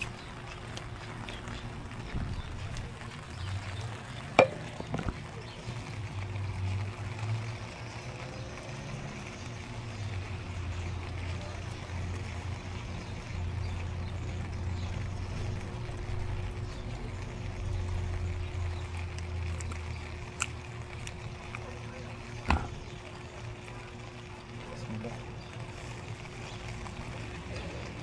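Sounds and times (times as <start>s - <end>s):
low street rumble: 0.0s - 28.0s.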